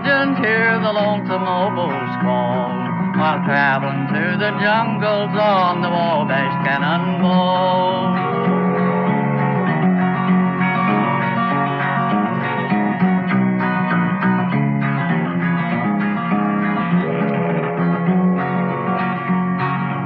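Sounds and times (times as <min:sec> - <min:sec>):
country guitar picking melody: 0:00.0 - 0:20.0
strummed guitar chords: 0:00.0 - 0:20.0.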